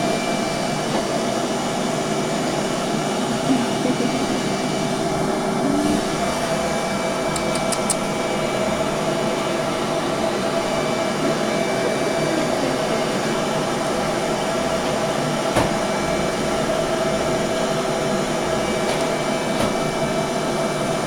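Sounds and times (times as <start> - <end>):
whirring machine hum: 0.0 - 21.0.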